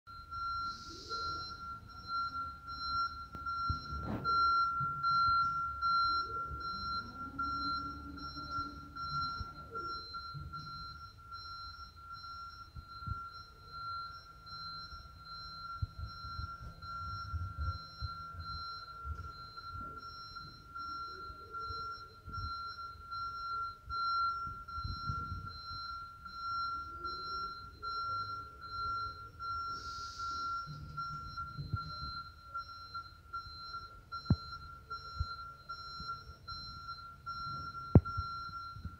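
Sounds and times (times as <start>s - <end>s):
high-pitched warning tone: 0.1s - 38.9s
pulsing tones: 0.1s - 38.9s.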